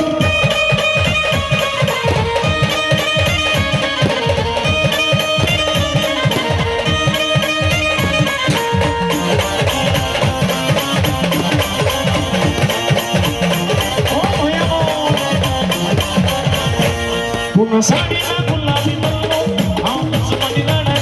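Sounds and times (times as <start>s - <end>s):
fast drum beat: 0.0s - 21.0s.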